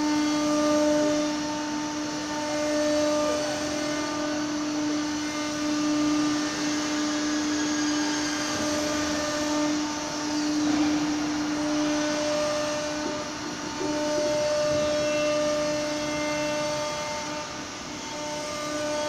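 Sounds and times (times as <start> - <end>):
machine pitched hum and rushing: 0.0 - 19.0.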